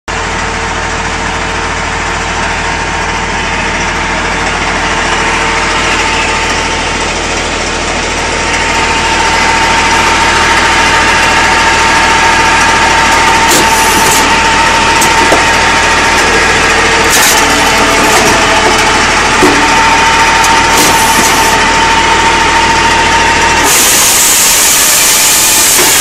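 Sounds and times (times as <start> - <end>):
machine drone with whine: 0.1 - 26.0.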